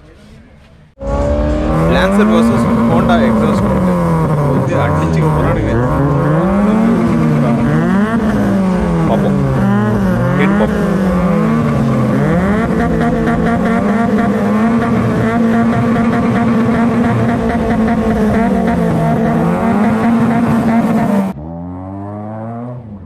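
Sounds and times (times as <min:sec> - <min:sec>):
car engines revving: 0:00.9 - 0:23.0
quieter engine revving: 0:01.0 - 0:23.0.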